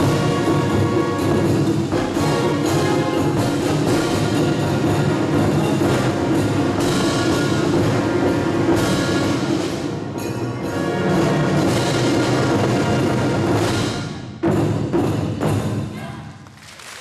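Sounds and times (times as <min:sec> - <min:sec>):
taiko drums: 0:00.0 - 0:10.7, 0:11.3 - 0:16.4
percussion and french horns ensemble: 0:00.0 - 0:17.0.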